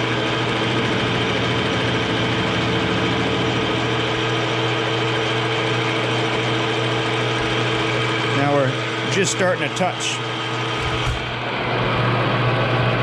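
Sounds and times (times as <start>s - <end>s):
lathe running: 0.0s - 13.0s.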